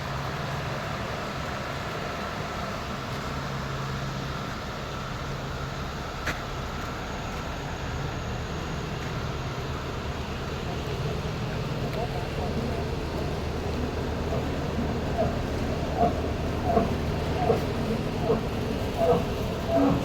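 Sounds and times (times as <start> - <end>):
low machine hum: 0.3 - 20.0.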